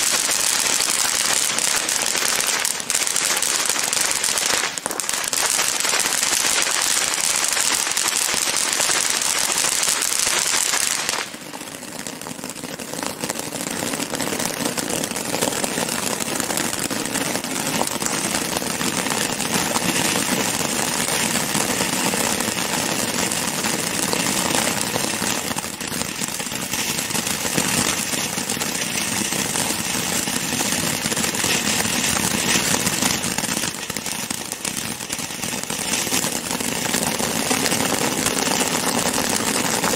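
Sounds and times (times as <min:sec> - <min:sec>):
firework fountains hissing and crackling: 0:00.0 - 0:39.9.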